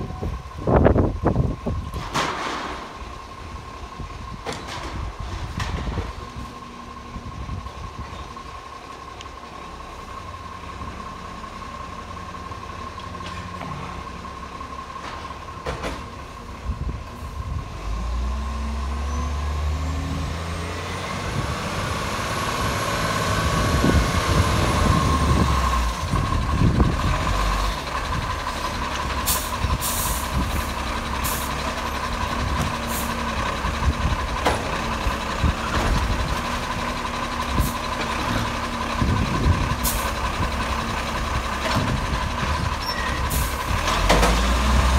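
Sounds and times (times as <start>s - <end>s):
garbage truck diesel engine: 0.0s - 44.9s.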